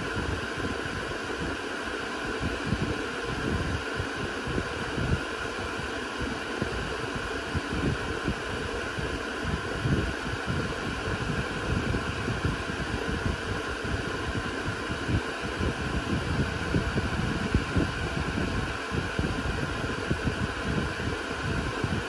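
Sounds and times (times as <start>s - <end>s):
cooling fans whirring: 0.0s - 22.0s.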